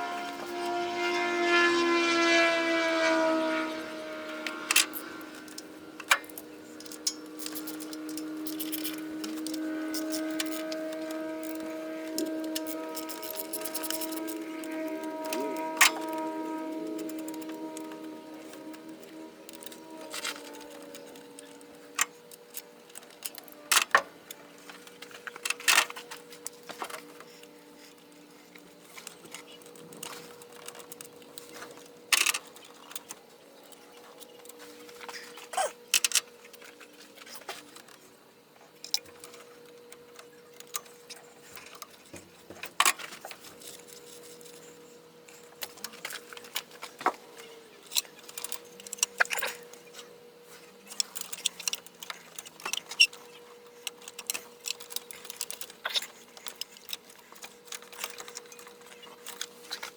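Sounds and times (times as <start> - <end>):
steady humming tone: 0.0 - 59.9.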